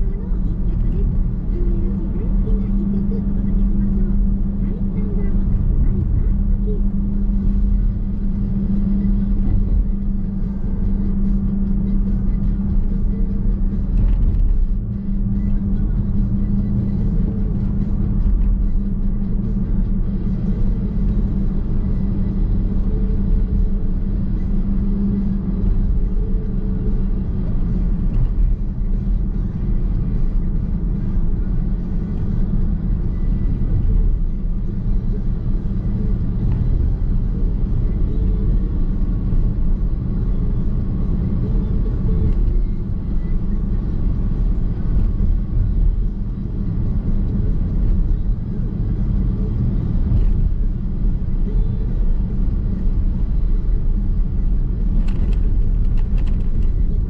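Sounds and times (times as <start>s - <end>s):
road and tyre noise in car: 0.0s - 57.0s.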